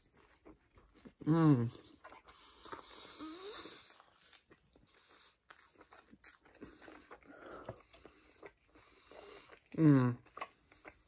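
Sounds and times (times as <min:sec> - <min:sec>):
chewing soft bread: 0:00.0 - 0:11.0.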